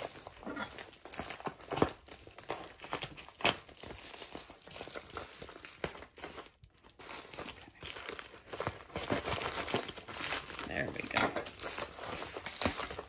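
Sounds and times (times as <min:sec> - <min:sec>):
plastic mailer crinkling: 0:00.0 - 0:13.0.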